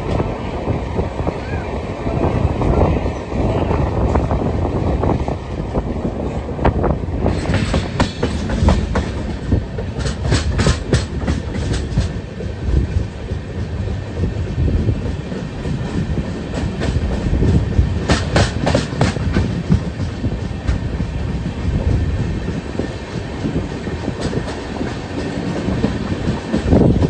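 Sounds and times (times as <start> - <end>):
train rumble: 0.0 - 27.0
wheels clickety-clack on rail joints: 0.0 - 27.0.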